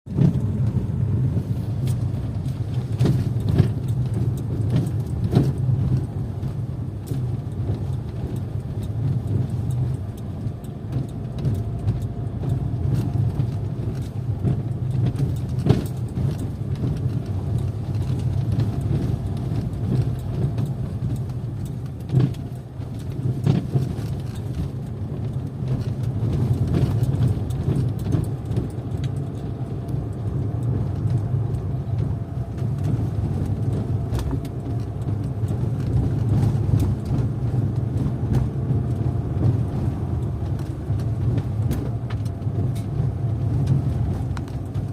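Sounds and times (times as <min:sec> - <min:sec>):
car engine low drone: 0:00.0 - 0:44.9.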